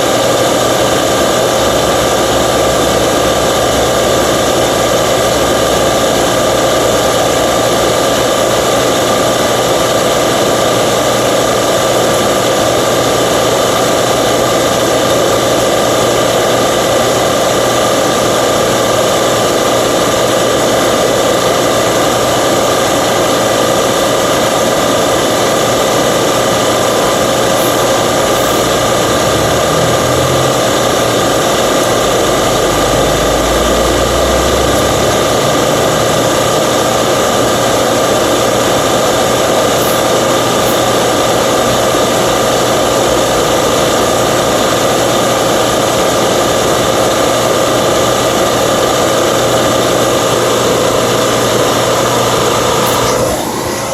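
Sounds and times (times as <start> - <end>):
machine droning with whine: 0.0 - 53.9.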